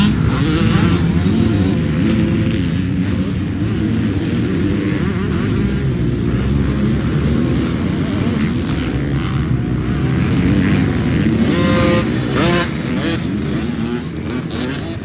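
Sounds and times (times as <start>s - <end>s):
two-stroke dirt bike engine: 0.0s - 15.0s.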